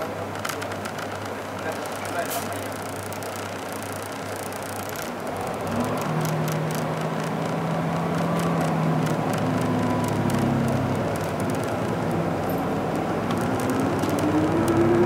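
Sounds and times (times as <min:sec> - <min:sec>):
bus diesel engine running: 0:00.0 - 0:15.0
road noise: 0:00.0 - 0:15.0.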